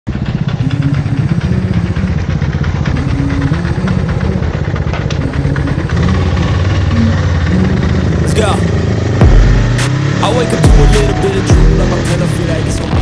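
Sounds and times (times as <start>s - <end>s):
motorcycle engine running at low revs: 0.1s - 13.0s.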